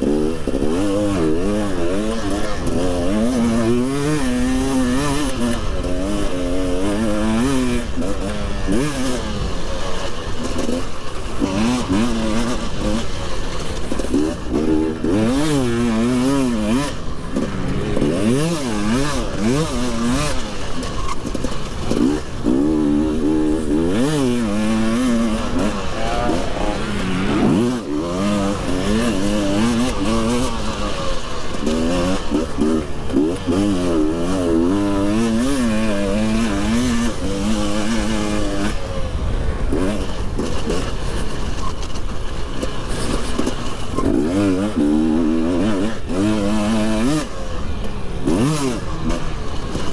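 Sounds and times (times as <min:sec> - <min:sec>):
motocross engine revving: 0:00.0 - 0:49.9.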